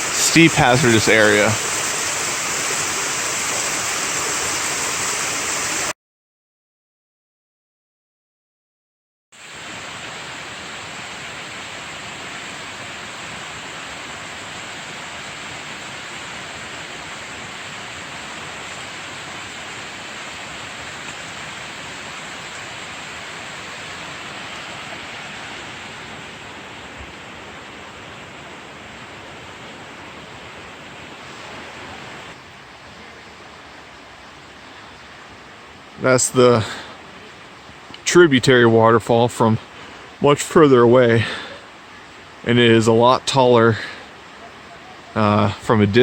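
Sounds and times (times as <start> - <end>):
waterfall rushing: 0.0 - 5.9, 9.4 - 38.0, 38.6 - 46.0.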